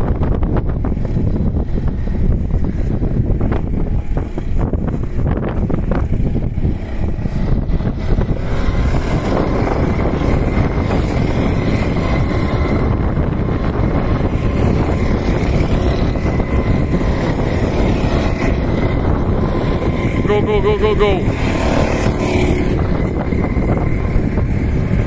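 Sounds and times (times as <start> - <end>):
go-kart engines buzzing: 0.0 - 25.0
wind rumbling on microphone: 0.0 - 25.0.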